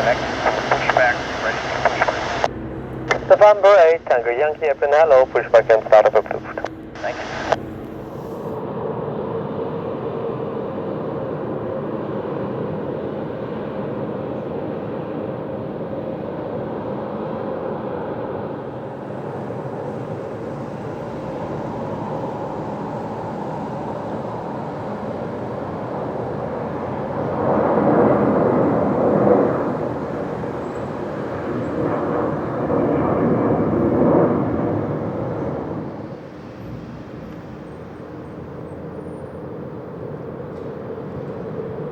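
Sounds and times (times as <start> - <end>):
jet aircraft whine and rush: 0.0 - 41.9.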